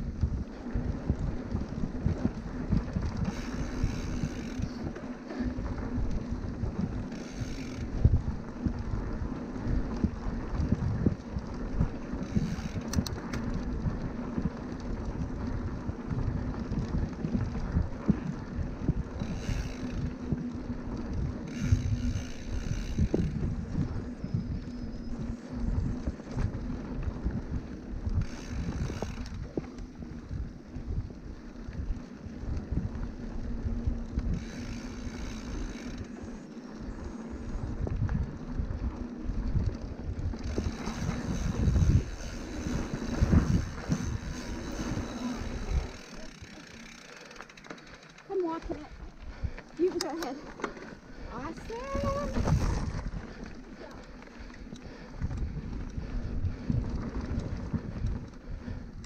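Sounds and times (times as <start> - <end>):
wind buffeting microphone: 0.0 - 47.1, 48.4 - 59.0
bike tyres rumbling on dirt: 0.0 - 59.0.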